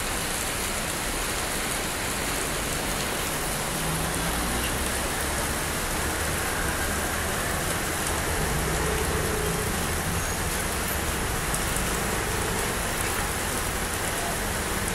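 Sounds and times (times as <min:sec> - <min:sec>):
heavy rain on ground and vehicles: 0:00.0 - 0:14.9
street traffic rumble: 0:00.0 - 0:14.9.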